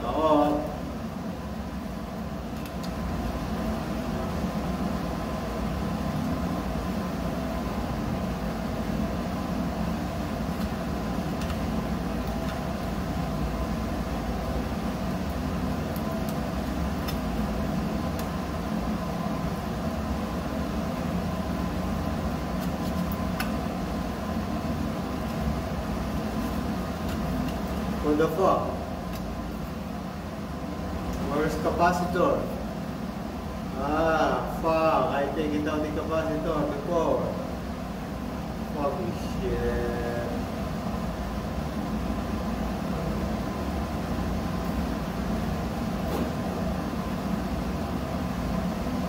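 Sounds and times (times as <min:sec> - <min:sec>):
machinery hum: 0:00.0 - 0:49.0.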